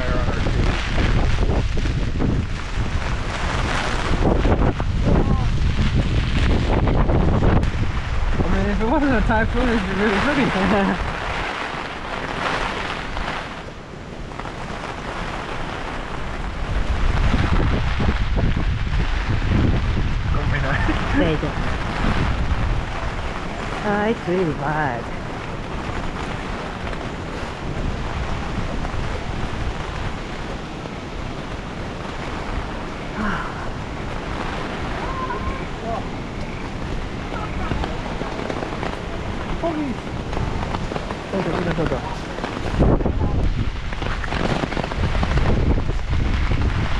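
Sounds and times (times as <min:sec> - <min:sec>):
heavy rain: 0:00.0 - 0:46.9
wind buffeting microphone: 0:00.0 - 0:46.9.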